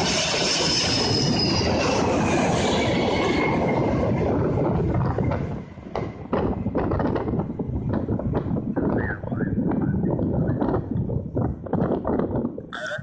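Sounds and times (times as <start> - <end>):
jet engines roaring overhead: 0.0 - 12.7.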